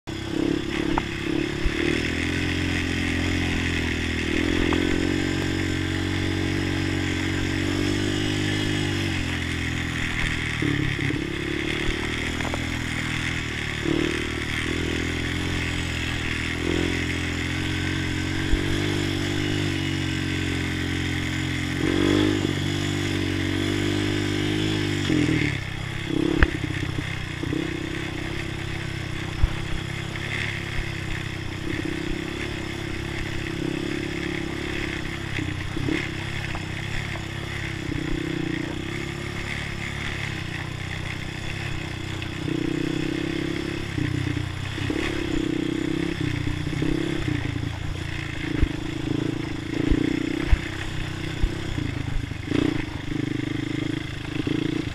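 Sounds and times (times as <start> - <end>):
quad engine running: 0.0 - 54.9
quad clunking over bumps: 0.3 - 54.9.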